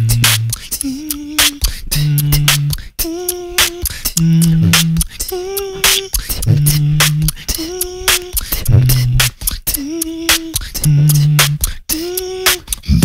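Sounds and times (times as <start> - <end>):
beatboxing into a microphone: 0.0 - 13.0.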